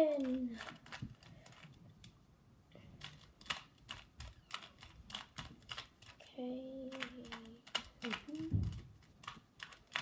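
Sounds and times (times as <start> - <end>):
puzzle cube clicking: 0.1 - 2.2, 3.0 - 6.3, 6.9 - 10.0.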